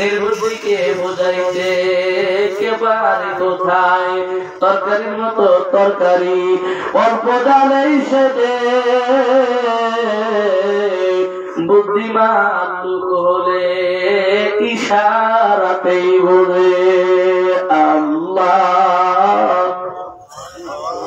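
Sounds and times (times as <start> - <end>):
man singing melodic chant: 0.0 - 21.0.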